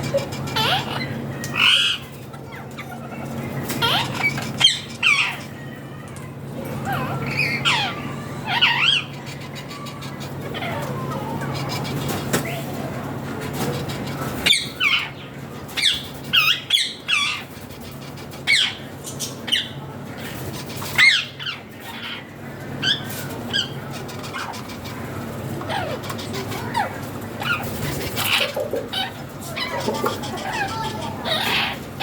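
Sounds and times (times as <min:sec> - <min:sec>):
parakeets squawking: 0:00.0 - 0:32.0
steady low hum: 0:00.0 - 0:32.0.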